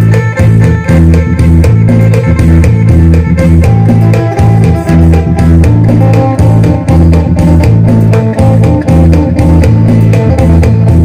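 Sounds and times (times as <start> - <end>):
electric guitar melody: 0.0 - 11.0.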